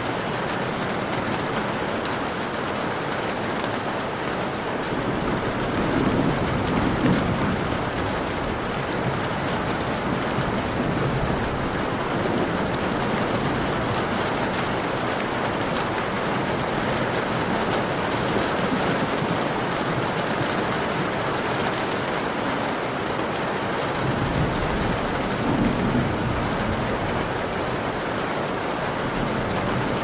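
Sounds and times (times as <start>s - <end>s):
rain falling on a window: 0.0s - 30.0s.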